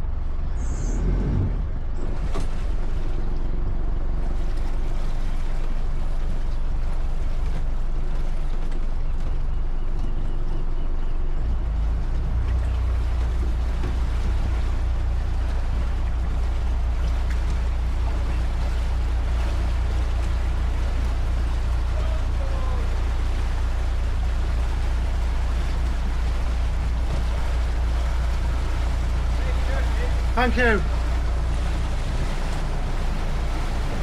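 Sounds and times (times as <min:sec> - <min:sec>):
boat engine running: 0:00.0 - 0:34.0
water noise: 0:00.0 - 0:34.0.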